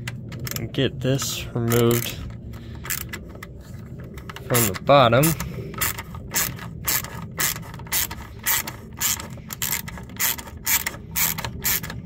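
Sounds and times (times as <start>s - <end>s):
hand ratchet clicking: 0.0s - 2.2s, 4.5s - 12.0s.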